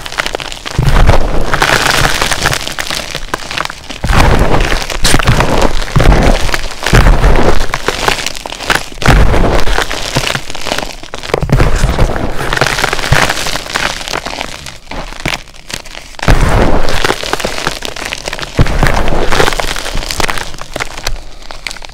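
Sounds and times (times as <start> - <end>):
chalk blocks crunching: 0.0 - 21.9.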